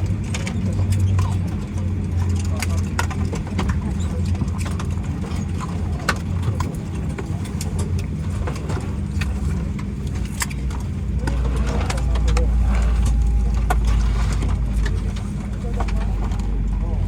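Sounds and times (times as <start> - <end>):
aircraft engine hum: 0.0 - 17.0
clicks and rattles: 0.0 - 17.0.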